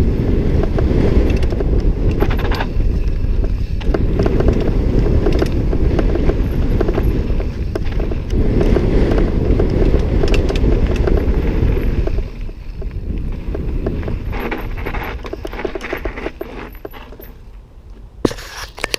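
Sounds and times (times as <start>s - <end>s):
wind rush on microphone: 0.0s - 17.5s
bike rattles and clicks: 0.0s - 18.9s
bike tyre noise on dirt: 0.0s - 18.9s.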